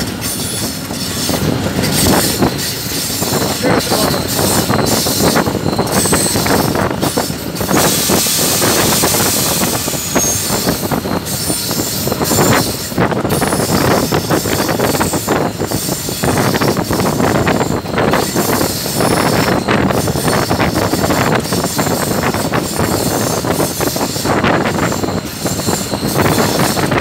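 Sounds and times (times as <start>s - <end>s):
wheels clattering on rail: 0.0s - 27.0s
brief high squeal: 2.1s - 27.0s.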